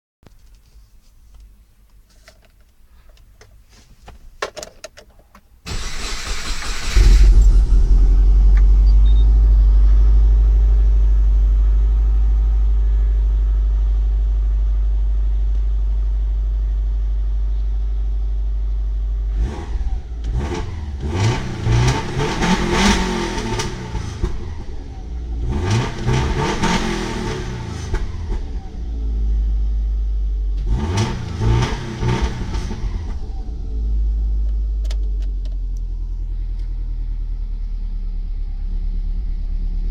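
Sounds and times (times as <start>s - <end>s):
car engine idling and revving: 5.7s - 39.9s.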